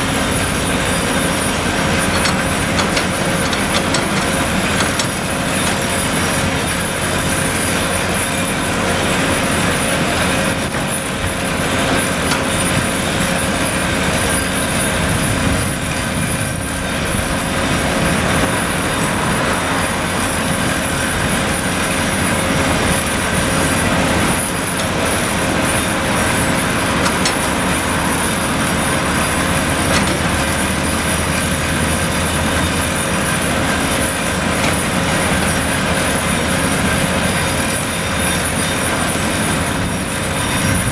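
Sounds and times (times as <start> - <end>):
excavator diesel engine under load: 0.0 - 40.9
hydraulics working: 0.0 - 40.9.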